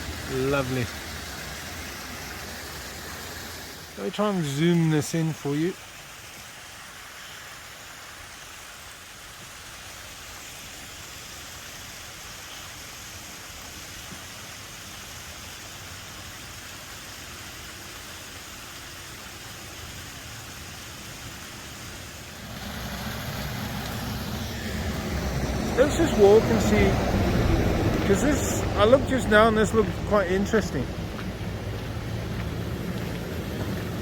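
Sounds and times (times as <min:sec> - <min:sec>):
small waterfall rushing: 0:00.0 - 0:34.0.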